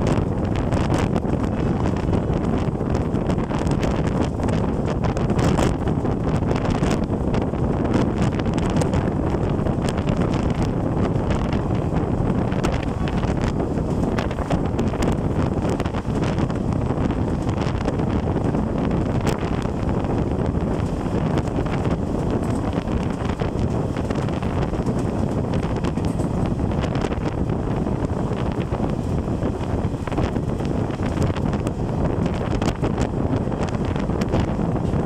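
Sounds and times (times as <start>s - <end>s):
train rumbling on rails: 0.0s - 35.0s
wind buffeting microphone: 0.0s - 35.0s.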